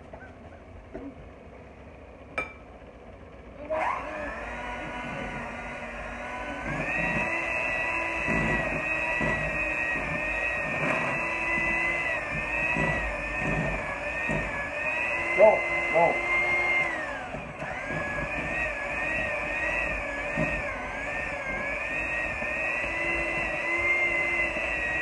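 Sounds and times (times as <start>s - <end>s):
electric hand mixer whining: 0.0s - 25.0s.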